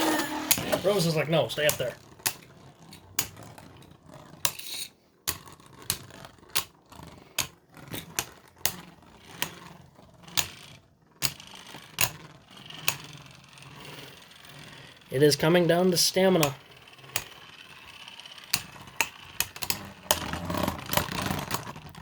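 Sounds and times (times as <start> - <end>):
spinning tops clacking: 0.0 - 6.7, 7.4 - 21.9
faint steady whir: 0.0 - 22.0.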